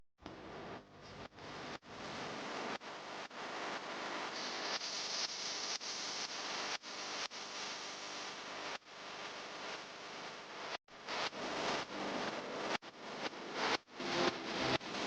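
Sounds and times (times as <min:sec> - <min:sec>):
static-like hiss: 0:00.3 - 0:15.0.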